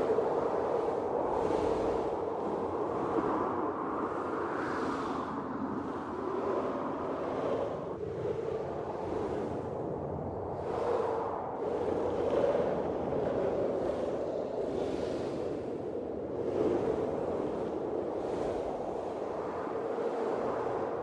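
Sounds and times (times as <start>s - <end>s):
blizzard wind gusting: 0.0s - 21.0s.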